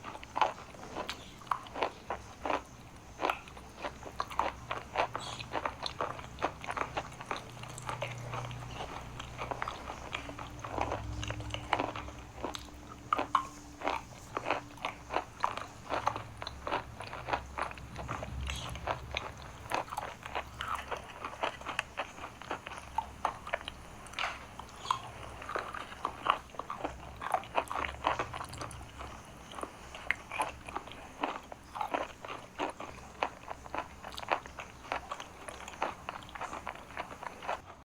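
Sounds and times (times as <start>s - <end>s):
chewing chalk crunches: 0.0s - 37.8s.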